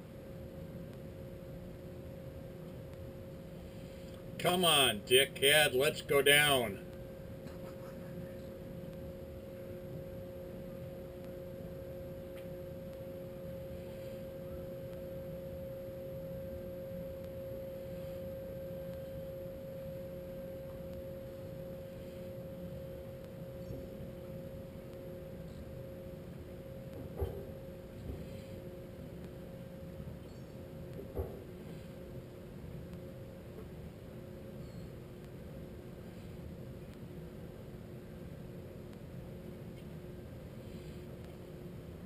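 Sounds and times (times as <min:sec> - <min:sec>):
machinery hum: 0:00.0 - 0:42.0.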